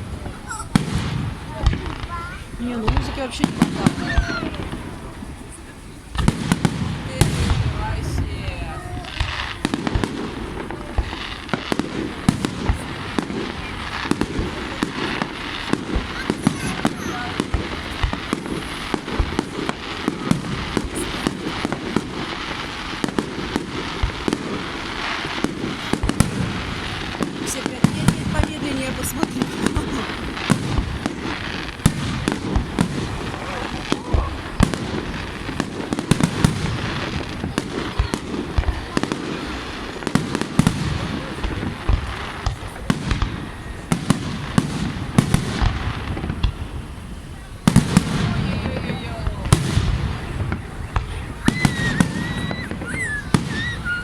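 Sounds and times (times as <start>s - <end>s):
deep fireworks booms: 0.0s - 54.0s
fireworks bangs and pops: 0.0s - 54.0s.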